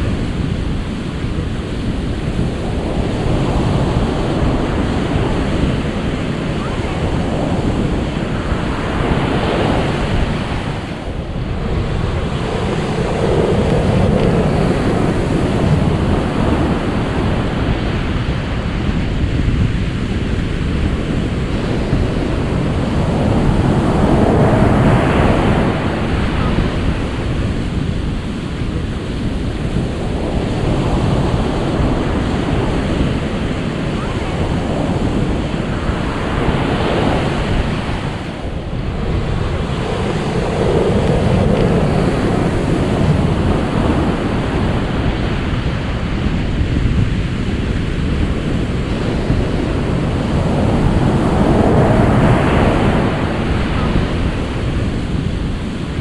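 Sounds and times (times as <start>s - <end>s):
ocean waves washing in: 0.0s - 56.0s.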